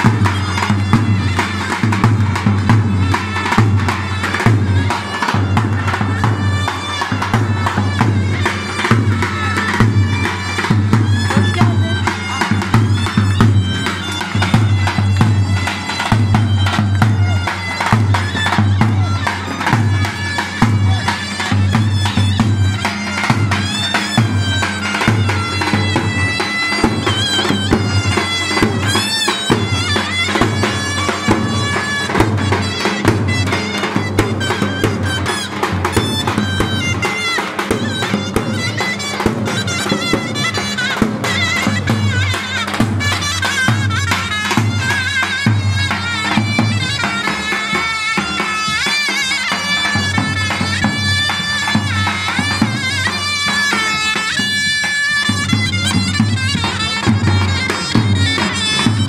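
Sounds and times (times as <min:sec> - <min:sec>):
nasal reed instrument melody: 0:00.0 - 0:59.0.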